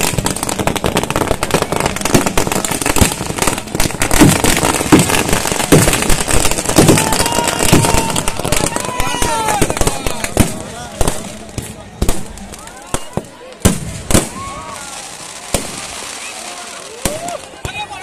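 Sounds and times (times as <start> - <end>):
firework bangs: 0.0 - 18.0
fireworks crackling and popping: 0.0 - 18.0.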